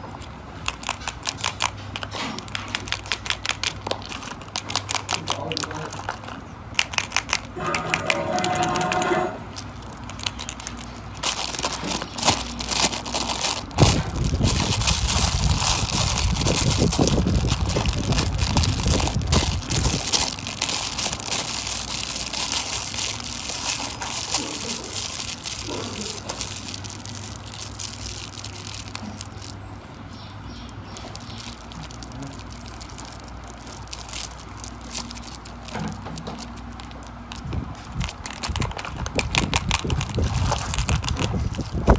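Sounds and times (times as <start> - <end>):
foil wrapping crinkling: 0.0 - 41.9.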